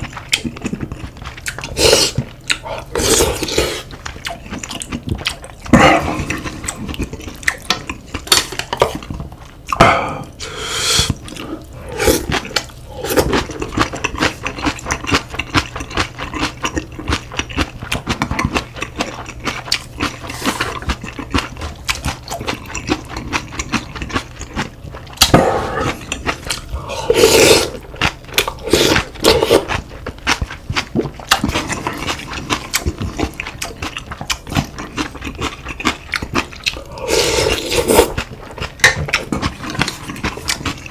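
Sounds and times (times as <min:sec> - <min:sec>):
chewing: 0:00.0 - 0:10.4, 0:11.0 - 0:40.9.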